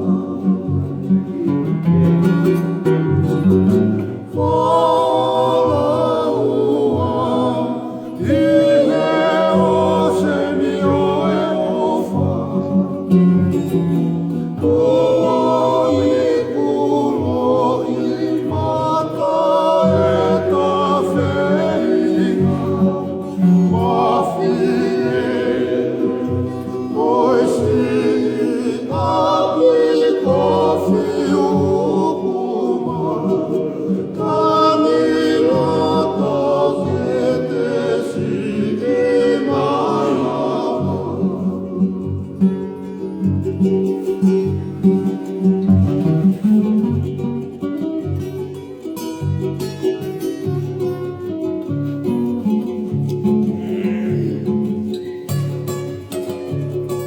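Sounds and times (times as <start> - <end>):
group singing in harmony: 0.0 - 47.3, 50.5 - 56.4.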